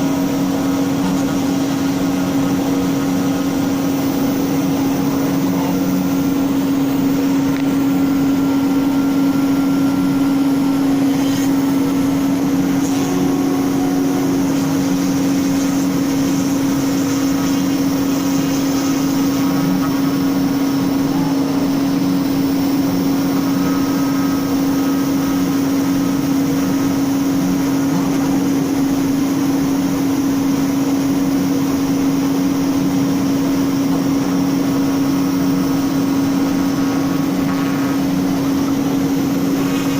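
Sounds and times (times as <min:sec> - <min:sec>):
router spindle hum: 0:00.0 - 0:39.9.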